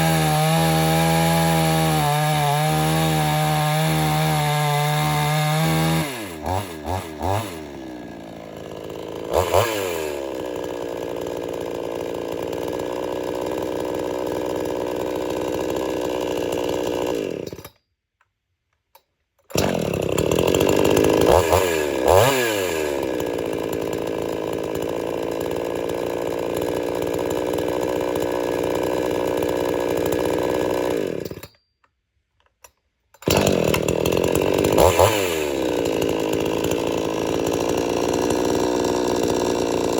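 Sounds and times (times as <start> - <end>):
chainsaw engine revving: 0.0 - 17.7, 19.5 - 31.5, 33.2 - 39.9.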